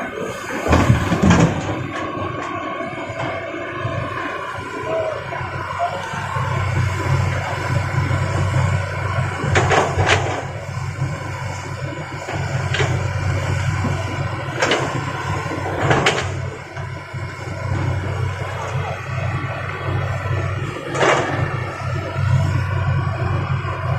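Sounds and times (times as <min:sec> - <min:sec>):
excavator engine running: 0:00.0 - 0:23.9.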